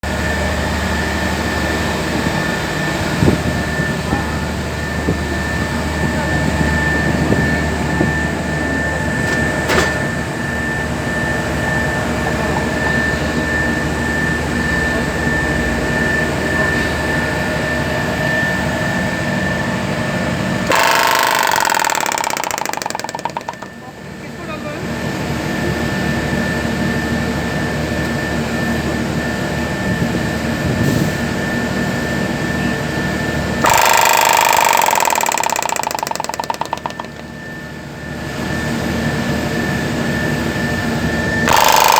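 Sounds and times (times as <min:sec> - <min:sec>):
compressor humming with whine: 0:00.0 - 0:30.8, 0:31.6 - 0:41.9.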